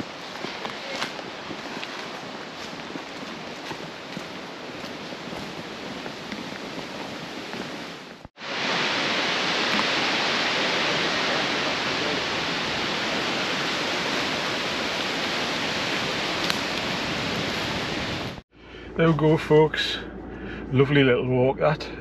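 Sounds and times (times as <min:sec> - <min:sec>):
wind rustling leaves: 0:00.0 - 0:18.4.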